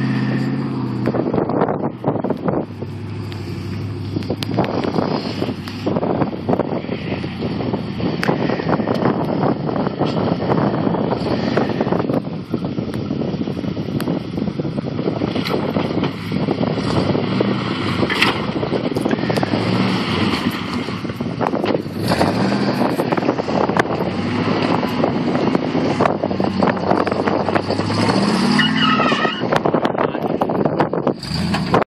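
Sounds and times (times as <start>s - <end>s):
truck engine revving under load: 0.0s - 31.9s.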